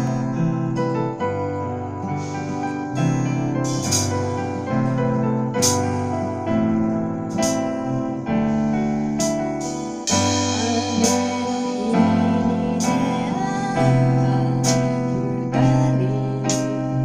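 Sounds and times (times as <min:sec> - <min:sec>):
electric keyboard: 0:00.0 - 0:17.0.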